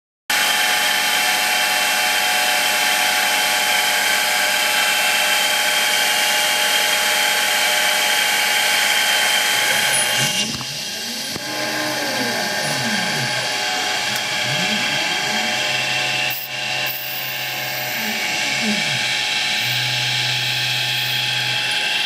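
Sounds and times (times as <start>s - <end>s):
rotary tool cutting wood: 0.4s - 22.0s
stepper motors whirring: 0.5s - 22.0s.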